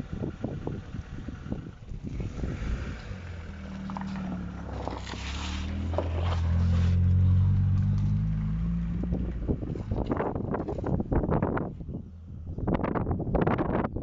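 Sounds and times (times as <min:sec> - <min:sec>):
race car engine driving: 0:00.0 - 0:13.8.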